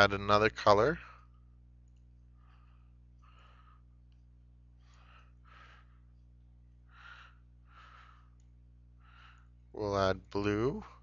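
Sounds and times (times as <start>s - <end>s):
low steady hum: 0.0s - 11.0s
faint breathing: 1.0s - 9.8s, 10.6s - 11.0s.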